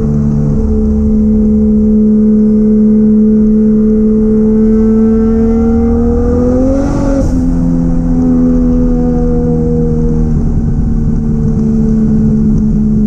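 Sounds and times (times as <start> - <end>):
turbocharged car engine running: 0.0 - 13.0.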